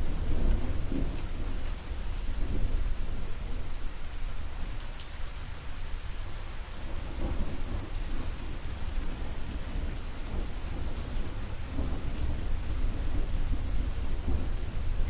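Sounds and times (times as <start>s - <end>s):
steady rain falling: 0.0s - 15.0s
thunder rumbling: 0.0s - 15.0s.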